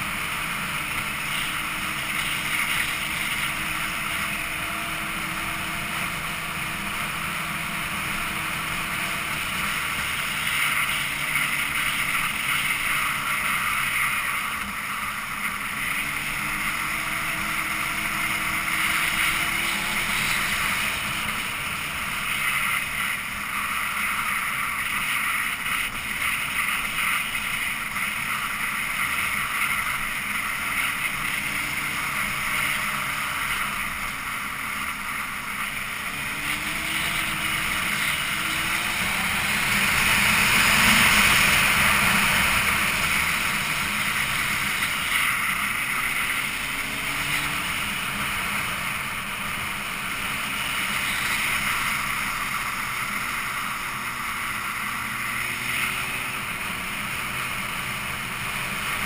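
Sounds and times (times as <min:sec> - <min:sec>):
vehicle engine: 0:00.0 - 0:59.0.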